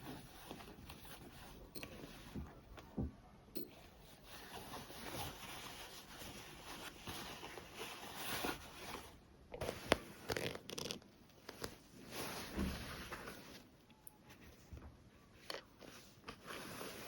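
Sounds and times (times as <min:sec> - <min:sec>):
fabric rustling: 0:00.0 - 0:03.0, 0:03.7 - 0:14.7, 0:15.4 - 0:17.0.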